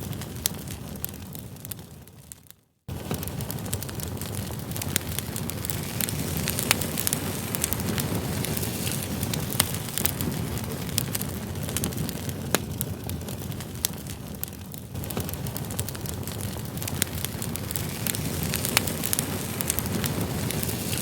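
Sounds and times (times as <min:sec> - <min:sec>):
campfire logs crackling and popping: 0:00.0 - 0:21.0
flames rushing: 0:00.0 - 0:21.0.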